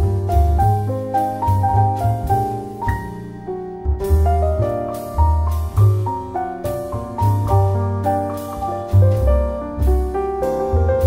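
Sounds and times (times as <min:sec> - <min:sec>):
low bass notes: 0:00.0 - 0:11.0
piano melody: 0:00.0 - 0:11.0.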